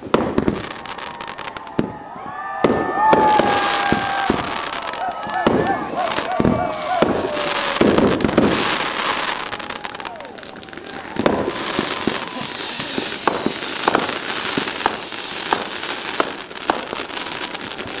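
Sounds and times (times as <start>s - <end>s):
fireworks crackling burst: 0.0s - 18.0s
fireworks sharp bangs: 0.0s - 18.0s
high firework whistles: 2.6s - 18.0s.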